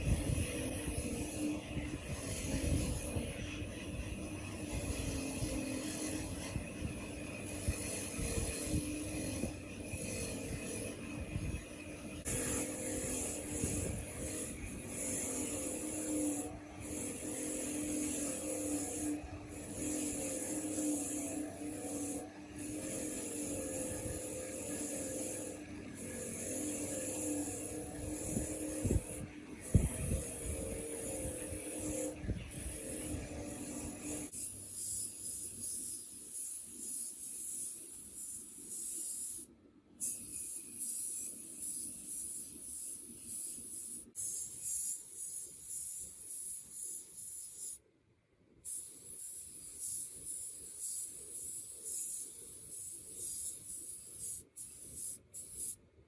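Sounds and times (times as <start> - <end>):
tool scraping a part: 0.0 - 47.8, 48.7 - 55.8.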